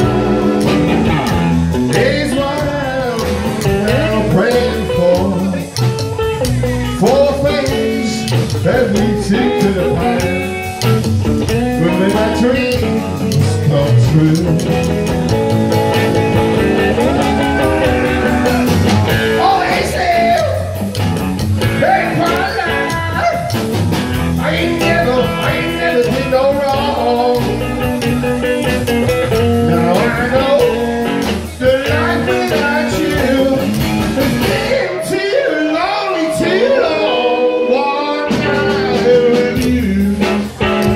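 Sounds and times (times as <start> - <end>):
person singing: 0.0 - 10.8, 11.6 - 15.4, 16.6 - 20.9, 24.4 - 28.1, 29.5 - 40.9
live rockabilly band playing: 0.0 - 40.9
steady drum beat: 0.0 - 40.9.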